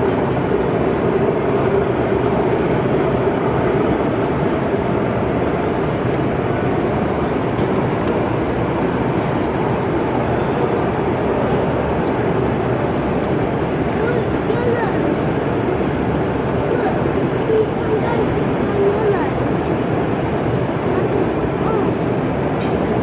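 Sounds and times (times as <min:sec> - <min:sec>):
model train rumbling on track: 0:00.0 - 0:23.0.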